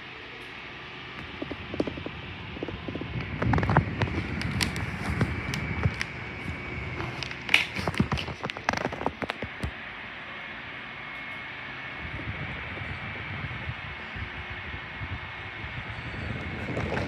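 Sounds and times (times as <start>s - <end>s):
electric fan running: 0.0s - 17.0s.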